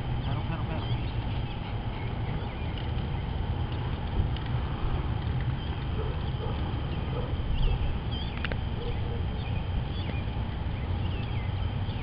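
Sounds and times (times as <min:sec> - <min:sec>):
steady low rumble: 0:00.0 - 0:12.0
small birds chirping: 0:00.1 - 0:03.7, 0:05.4 - 0:12.0.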